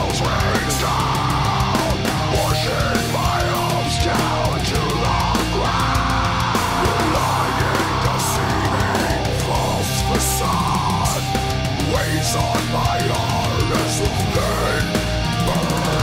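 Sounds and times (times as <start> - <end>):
distorted electric guitars: 0.0 - 16.0
drums: 0.0 - 16.0.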